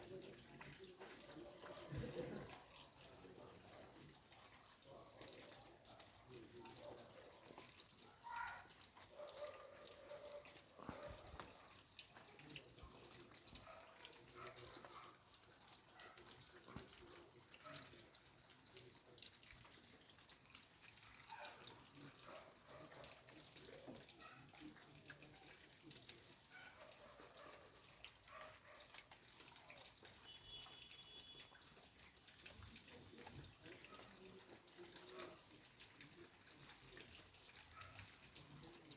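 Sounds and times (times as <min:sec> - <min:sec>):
faint rain dripping: 0:00.0 - 0:38.9.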